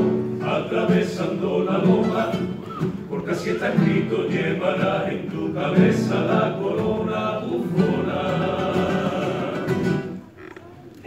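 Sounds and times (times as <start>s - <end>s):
choir singing chords: 0.0s - 10.2s.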